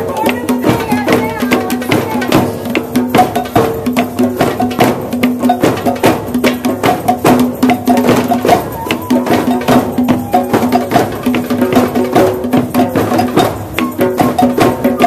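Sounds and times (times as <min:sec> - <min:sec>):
hand drums playing fast rhythm: 0:00.0 - 0:15.0.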